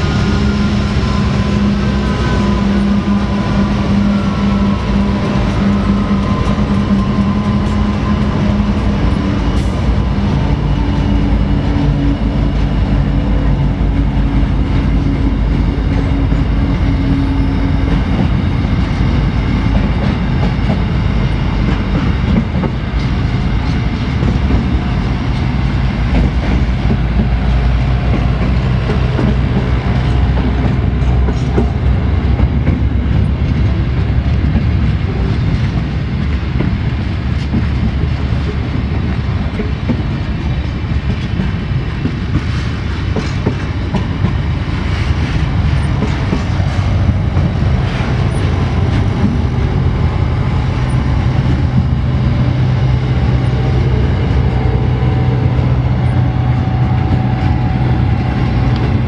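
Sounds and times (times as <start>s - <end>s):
freight train wheels clattering: 0.0s - 59.0s.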